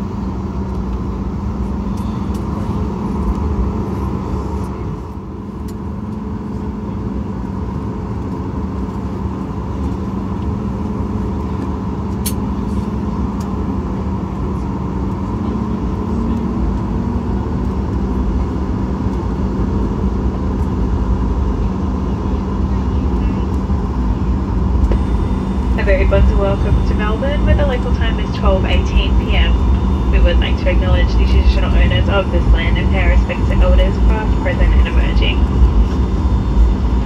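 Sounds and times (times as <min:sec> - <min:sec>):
jet engines humming at idle: 0:00.0 - 0:37.0
low cabin rumble: 0:00.0 - 0:37.0.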